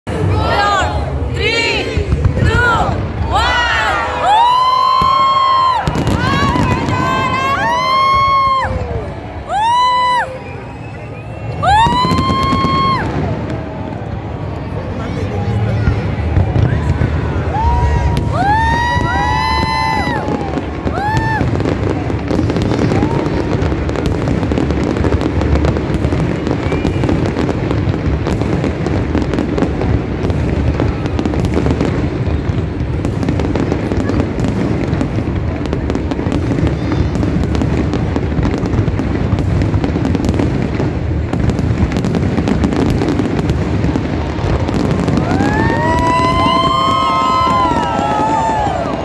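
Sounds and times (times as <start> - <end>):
fireworks bursting and crackling: 0.1 - 49.0.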